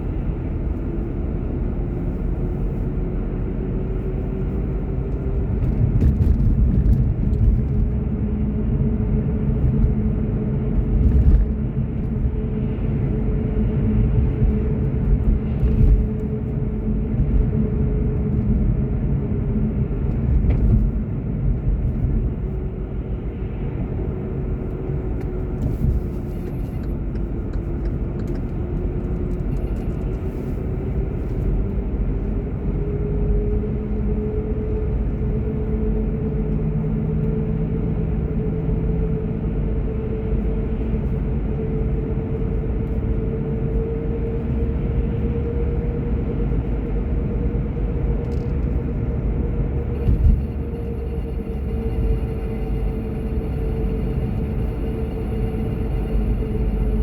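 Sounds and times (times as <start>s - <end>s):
car whine: 0.0s - 57.0s
road and engine rumble: 0.0s - 57.0s.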